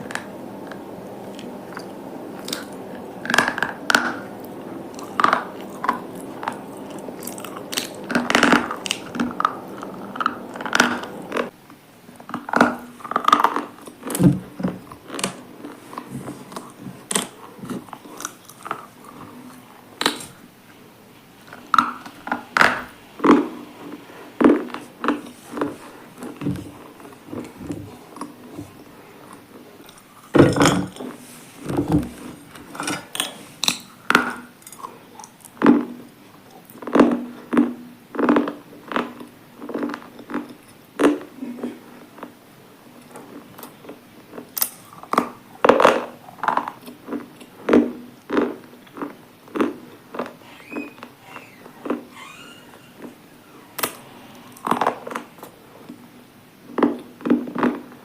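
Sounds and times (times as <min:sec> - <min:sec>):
crunching chewing: 0:00.0 - 0:58.0
faint steady hum: 0:00.0 - 0:58.0.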